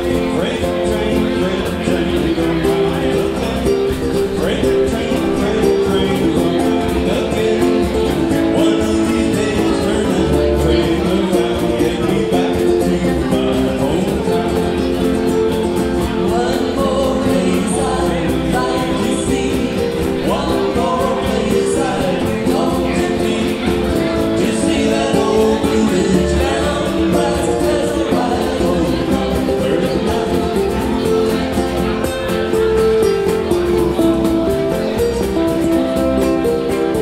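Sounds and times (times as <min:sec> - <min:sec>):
ukuleles strummed: 0:00.0 - 0:37.0.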